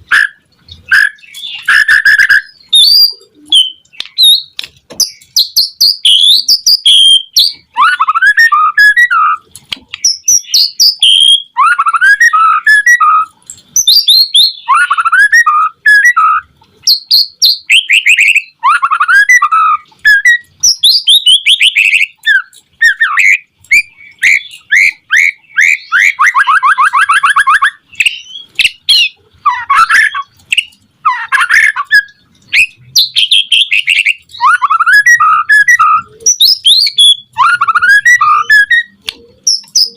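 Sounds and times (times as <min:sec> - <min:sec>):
bird singing whistled phrases: 0:00.1 - 0:09.4, 0:10.0 - 0:39.9.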